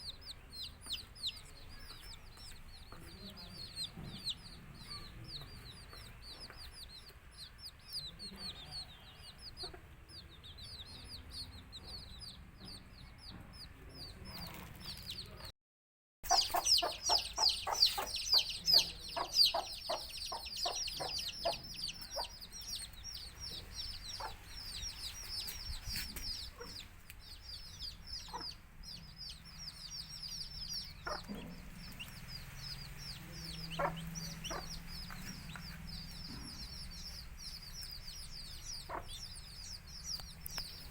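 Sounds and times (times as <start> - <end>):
hen clucking: 0.0 - 14.5, 16.2 - 40.9
chicks peeping: 0.0 - 15.5, 16.2 - 40.9.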